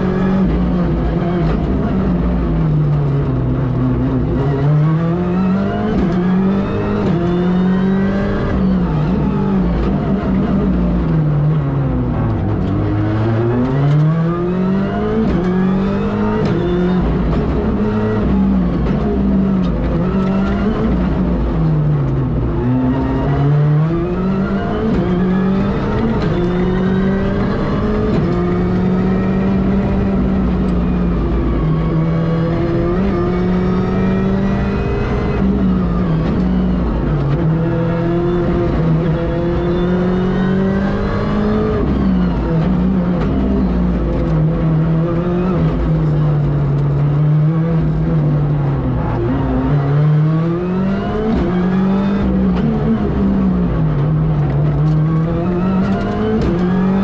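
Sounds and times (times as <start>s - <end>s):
rally car engine accelerating: 0.0s - 57.0s.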